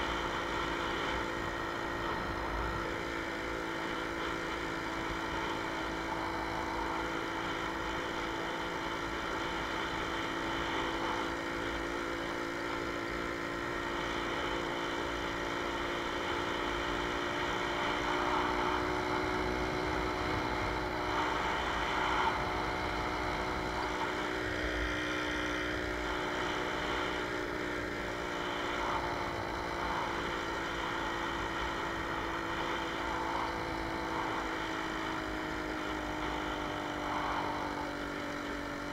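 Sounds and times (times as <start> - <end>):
two-stroke motorcycle engine: 0.0 - 38.9.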